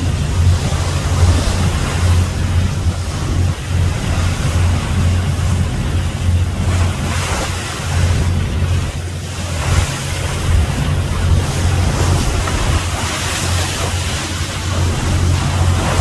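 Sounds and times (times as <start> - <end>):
boat engine droning: 0.0 - 16.0
water churning along hull: 0.0 - 16.0
wind buffeting microphone: 0.0 - 16.0.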